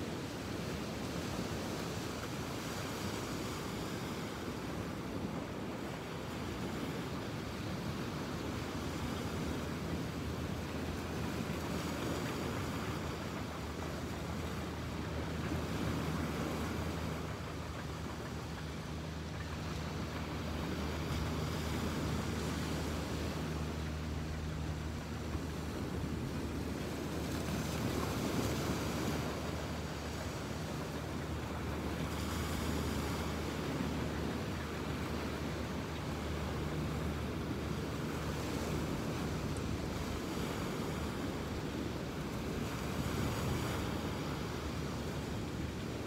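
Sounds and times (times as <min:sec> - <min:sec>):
surf washing on beach: 0:00.0 - 0:46.0.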